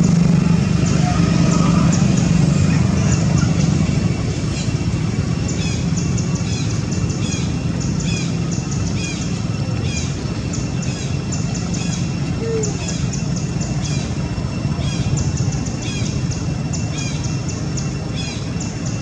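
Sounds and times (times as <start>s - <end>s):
distant traffic rumble: 0.0s - 19.0s
small birds chirping: 0.0s - 19.0s.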